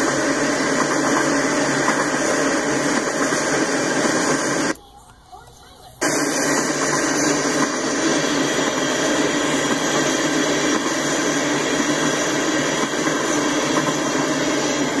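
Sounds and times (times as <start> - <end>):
steel wheels rolling on rails: 0.0 - 4.8, 5.4 - 15.0.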